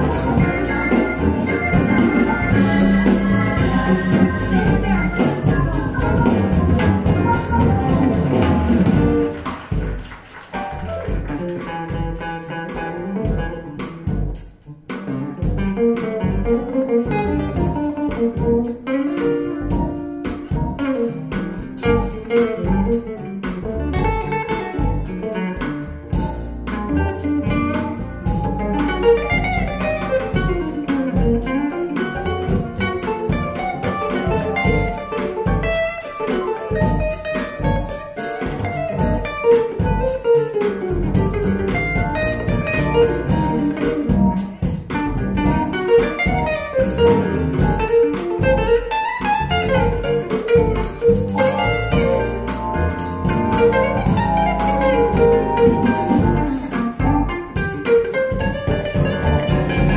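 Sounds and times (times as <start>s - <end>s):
guitar-led music with beat: 0.0s - 59.9s.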